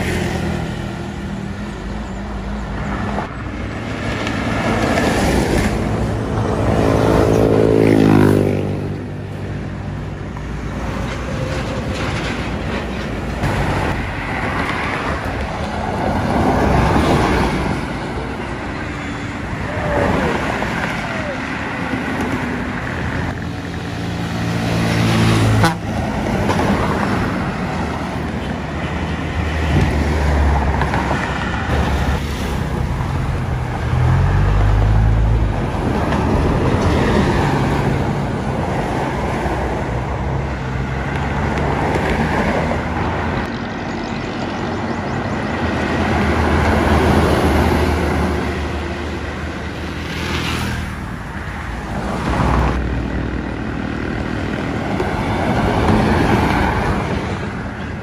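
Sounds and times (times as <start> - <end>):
buses passing with engine rumble: 0.0 - 58.0.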